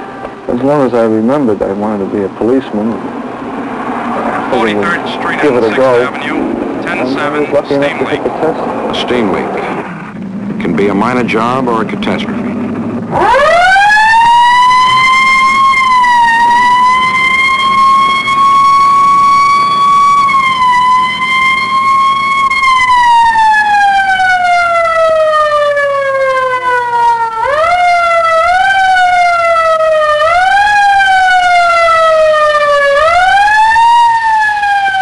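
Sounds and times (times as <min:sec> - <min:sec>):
police siren wailing: 0:00.0 - 0:10.3, 0:12.1 - 0:35.0.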